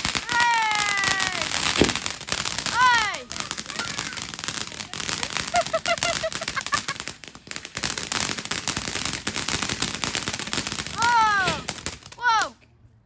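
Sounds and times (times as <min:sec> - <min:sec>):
fireworks crackling bangs: 0:00.0 - 0:12.6.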